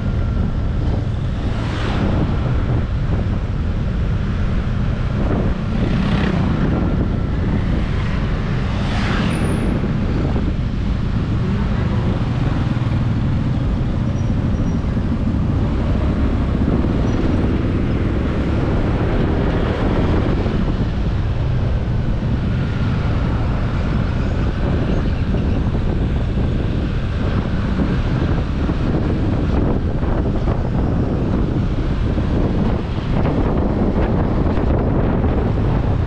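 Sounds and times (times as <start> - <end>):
vehicle and road noise: 0.0 - 36.0
wind buffeting microphone: 0.0 - 36.0.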